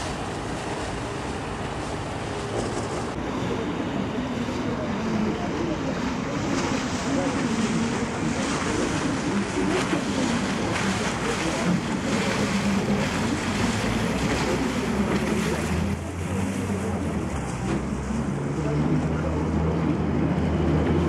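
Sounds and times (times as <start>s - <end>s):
motor boat engine running: 0.0s - 21.0s
water splashing past hull: 0.0s - 21.0s.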